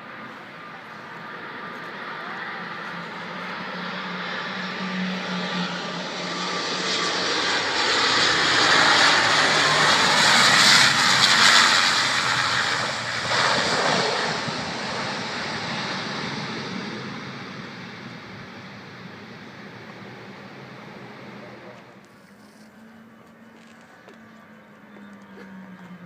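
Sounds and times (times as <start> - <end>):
airplane passing by: 0.0 - 26.0.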